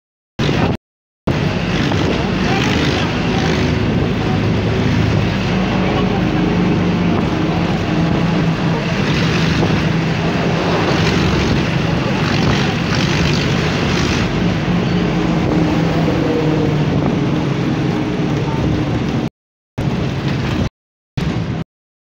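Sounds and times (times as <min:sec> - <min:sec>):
engine humming: 0:00.4 - 0:21.6
outdoor noise: 0:00.4 - 0:21.6.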